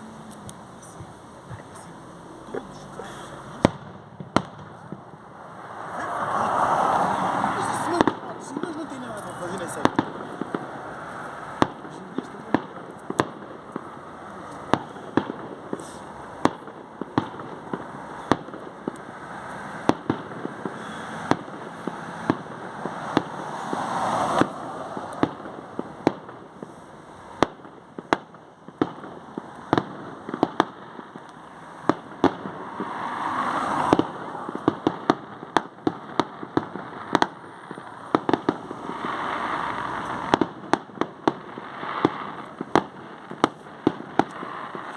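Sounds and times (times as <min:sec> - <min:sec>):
crackling hiss: 0:00.0 - 0:44.9
fireworks bangs and pops: 0:00.0 - 0:44.9.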